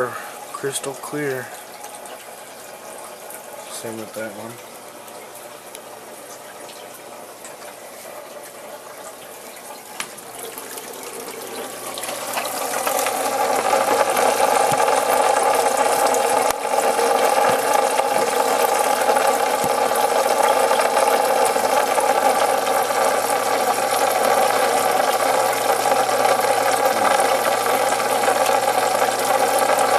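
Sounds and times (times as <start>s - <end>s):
aquarium water rushing: 0.0s - 29.9s.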